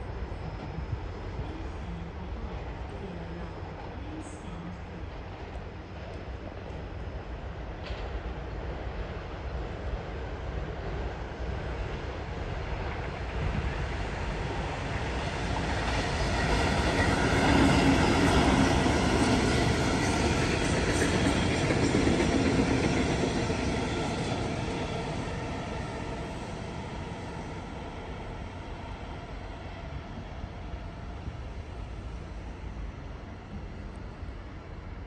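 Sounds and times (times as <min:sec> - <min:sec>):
electric train passing: 0:00.0 - 0:35.0.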